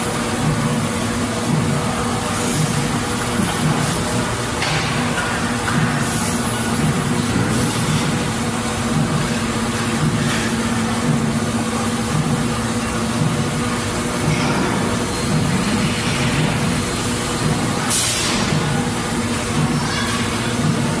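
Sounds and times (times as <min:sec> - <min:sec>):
factory machinery humming: 0:00.0 - 0:21.0.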